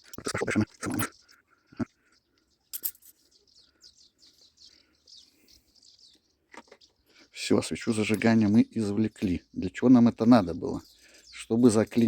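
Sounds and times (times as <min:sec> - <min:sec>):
faint rapid bird chirping: 0:00.0 - 0:12.0.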